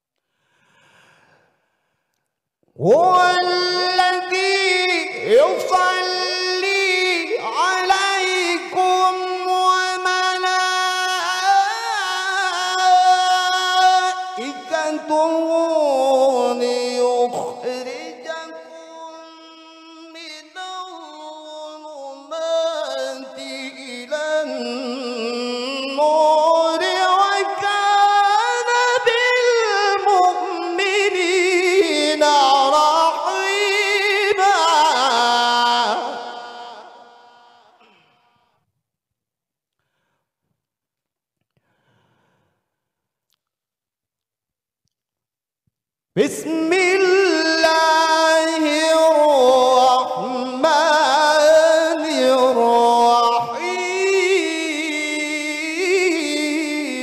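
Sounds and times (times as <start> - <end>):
man chanting through a microphone: 2.8 - 38.0, 46.2 - 57.0.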